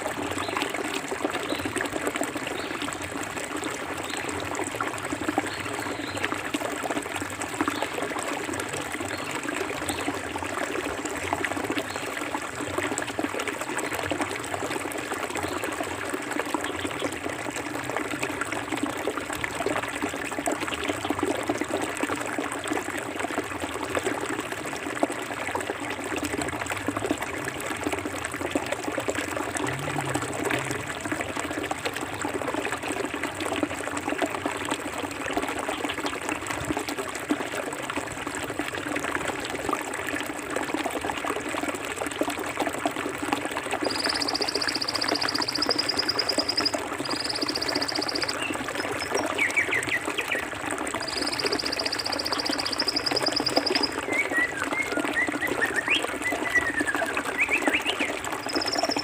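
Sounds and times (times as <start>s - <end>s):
small splashes and drips: 0.0s - 59.0s.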